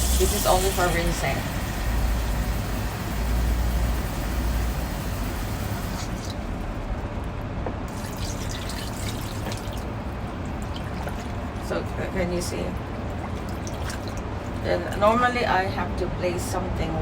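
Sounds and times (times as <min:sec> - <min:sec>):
water running from faucet: 0:00.0 - 0:07.0, 0:07.9 - 0:15.9.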